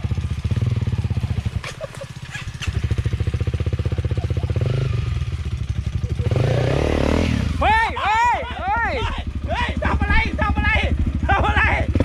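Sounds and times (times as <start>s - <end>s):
dirt bike engine at low revs: 0.0s - 12.0s.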